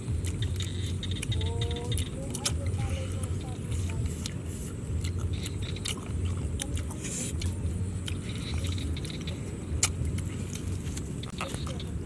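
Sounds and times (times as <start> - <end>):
crunchy chewing: 0.0 - 12.0
low steady rumble: 0.0 - 12.0.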